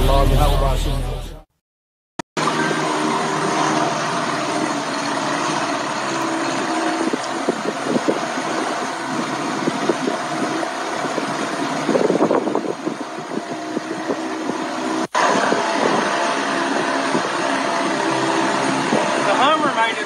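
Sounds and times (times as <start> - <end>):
outboard motor running: 2.4 - 20.0
wind and water rushing: 2.7 - 20.0.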